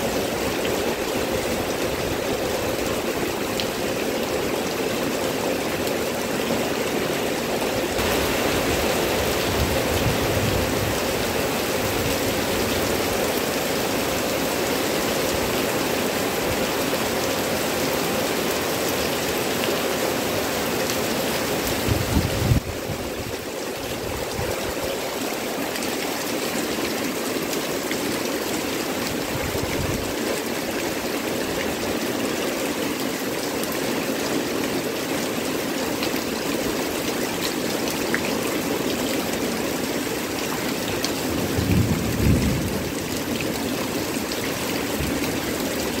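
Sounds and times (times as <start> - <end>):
heavy rain on foliage: 0.0 - 46.0.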